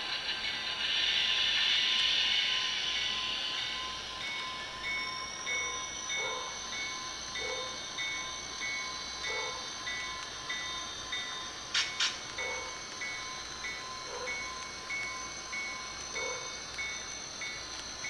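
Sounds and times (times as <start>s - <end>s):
model locomotive bell ringing: 0.0s - 18.0s
faint high whine: 0.2s - 18.0s.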